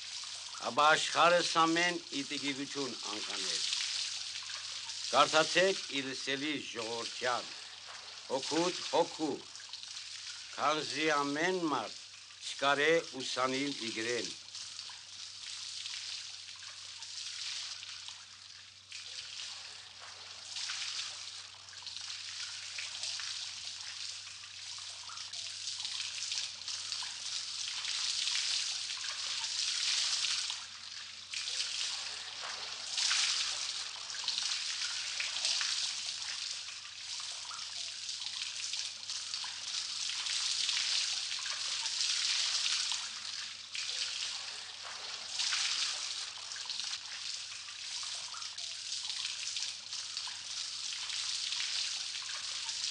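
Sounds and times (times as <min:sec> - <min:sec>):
water dripping and trickling: 0:00.0 - 0:52.9.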